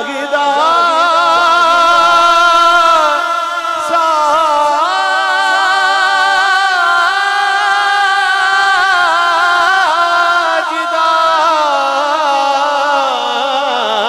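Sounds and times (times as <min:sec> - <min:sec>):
man singing through loudspeakers: 0:00.0 - 0:14.0.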